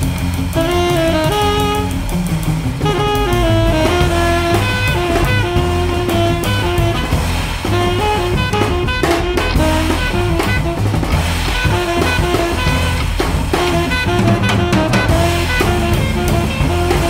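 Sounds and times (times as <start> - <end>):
cymbals and drums: 0.0 - 17.0
tenor saxophone: 0.0 - 17.0
walking double bass: 0.0 - 17.0.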